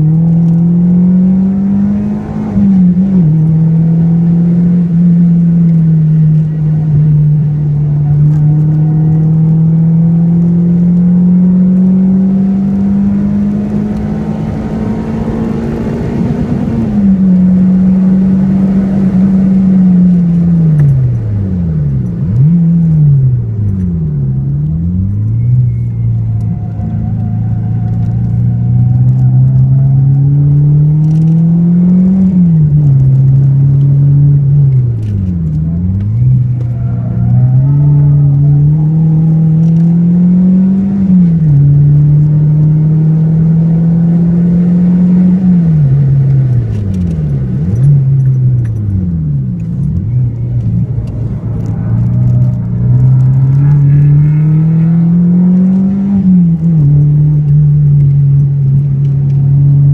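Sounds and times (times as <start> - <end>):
car engine revving in cabin: 0.0 - 59.9.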